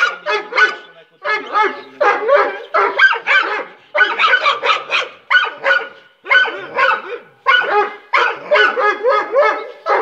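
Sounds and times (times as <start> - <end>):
dogs barking: 0.0 - 10.0.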